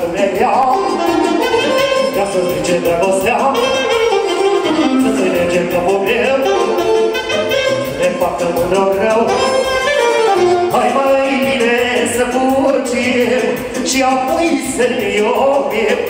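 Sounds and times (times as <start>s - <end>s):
folk dance music: 0.0s - 16.0s
wind instrument melody: 0.0s - 16.0s.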